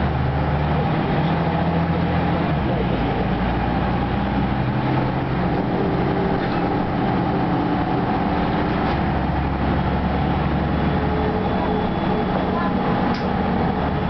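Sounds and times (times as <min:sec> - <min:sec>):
diesel bus engine hum: 0:00.0 - 0:14.0
road and body noise: 0:00.0 - 0:14.0.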